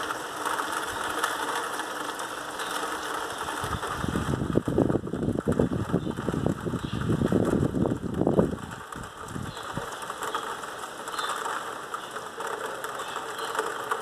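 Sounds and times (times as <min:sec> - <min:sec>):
raindrops clattering on window ledge: 0:00.0 - 0:14.0
steady hiss of rain: 0:00.0 - 0:14.0.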